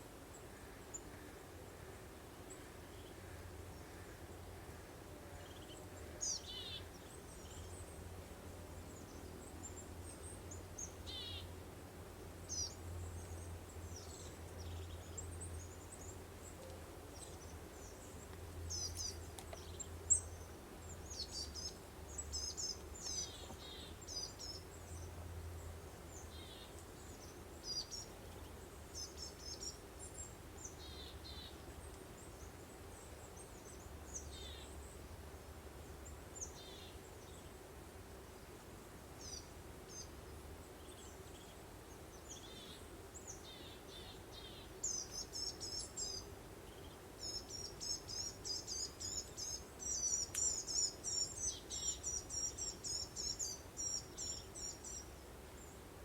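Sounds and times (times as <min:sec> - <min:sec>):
faint low hum: 0:00.0 - 0:56.0
songbirds chirping and trilling: 0:00.2 - 0:56.0.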